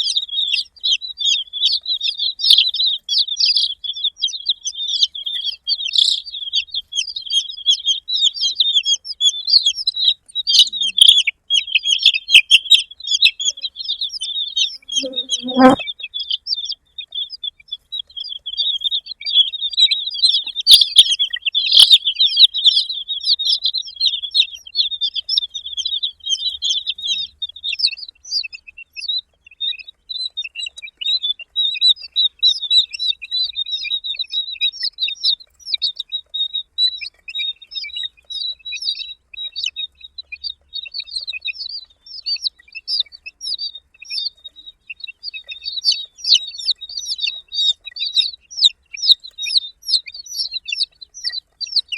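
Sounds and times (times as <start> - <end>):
baby chicks peeping: 0.0 - 51.9.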